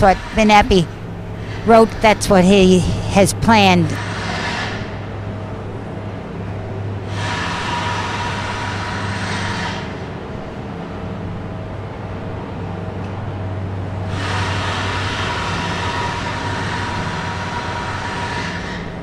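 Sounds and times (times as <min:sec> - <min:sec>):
heavy machinery engine drone: 0:00.0 - 0:19.0.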